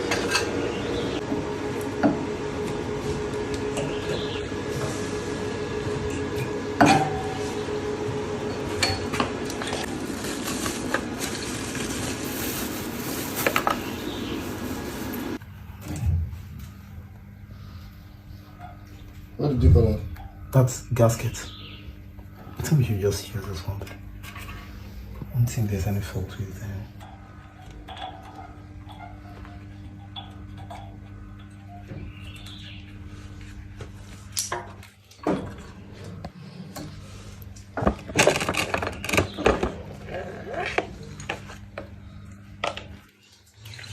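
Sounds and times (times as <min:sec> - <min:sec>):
steady mechanical hum: 0:00.0 - 0:43.9.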